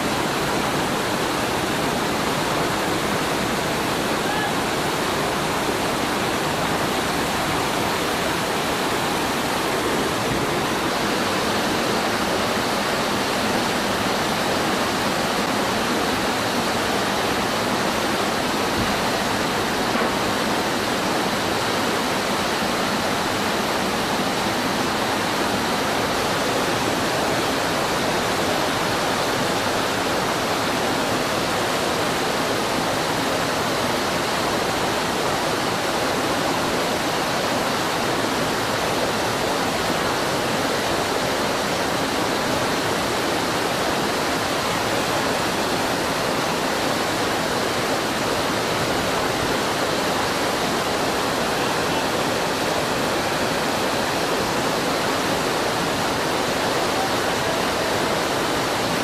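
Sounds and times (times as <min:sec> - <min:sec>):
whitewater rushing over rocks: 0:00.0 - 0:59.0.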